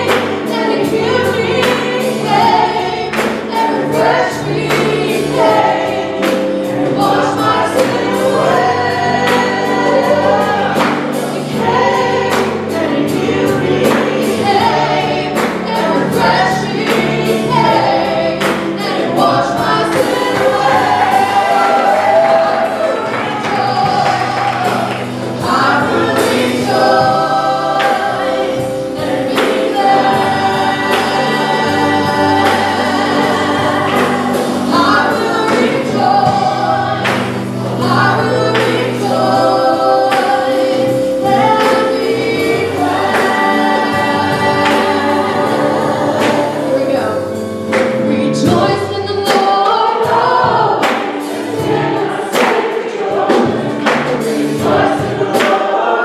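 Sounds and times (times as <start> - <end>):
keyboard: 0.0 - 56.0
steady drum beat: 0.0 - 56.0
women singing gospel lead: 0.0 - 56.0.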